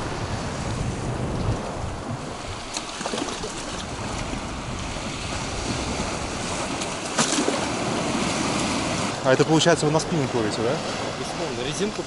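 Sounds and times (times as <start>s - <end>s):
waves lapping against concrete: 0.0s - 12.0s
water splashes: 2.3s - 12.0s.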